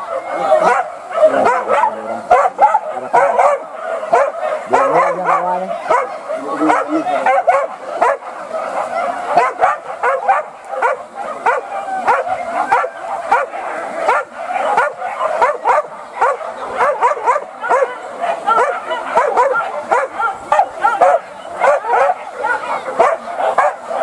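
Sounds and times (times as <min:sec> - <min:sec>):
dogs barking and yelping: 0:00.0 - 0:24.0.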